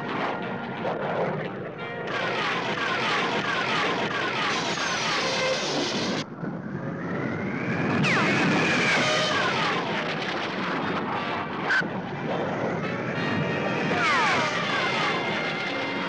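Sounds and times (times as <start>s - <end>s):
cartoon jet engine roar: 0.0s - 16.0s.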